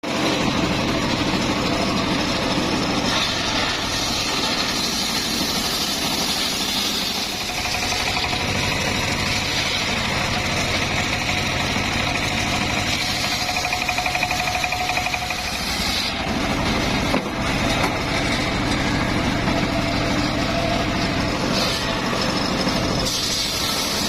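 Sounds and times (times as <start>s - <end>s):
sawmill engine running: 0.0s - 24.0s.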